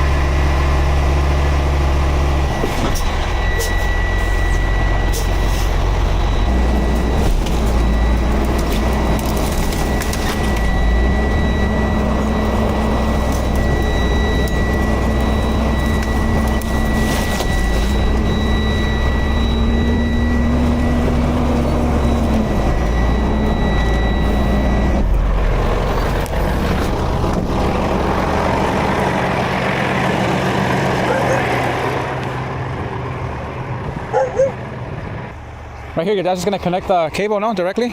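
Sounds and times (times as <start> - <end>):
high-pitched whine: 0.0 - 33.6
diesel engine rumbling: 0.0 - 37.9.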